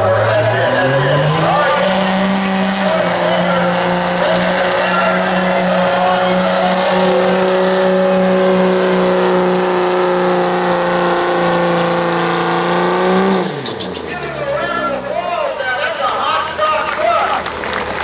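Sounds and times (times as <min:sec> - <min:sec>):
diesel engine at full throttle: 0:00.0 - 0:18.0.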